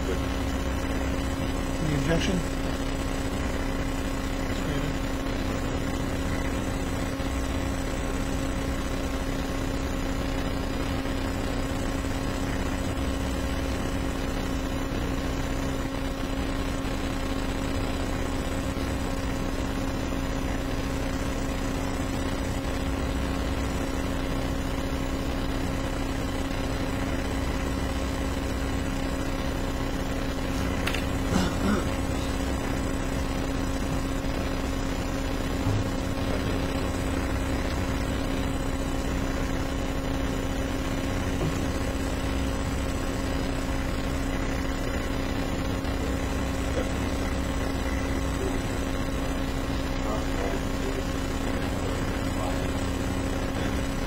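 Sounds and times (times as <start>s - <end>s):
background hum and hiss: 0.0s - 54.0s.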